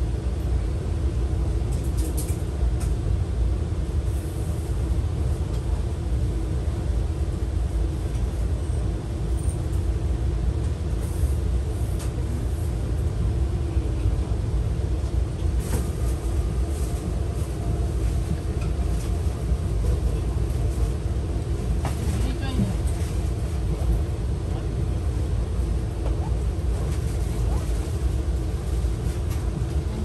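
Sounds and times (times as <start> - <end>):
train low rumble: 0.0 - 30.0.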